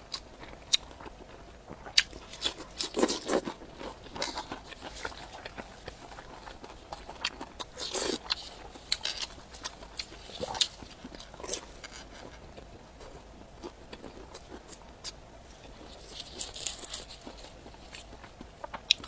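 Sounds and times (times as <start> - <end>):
crunchy bites: 0.0 - 19.0
wet chewing and mouth clicks: 0.0 - 19.0.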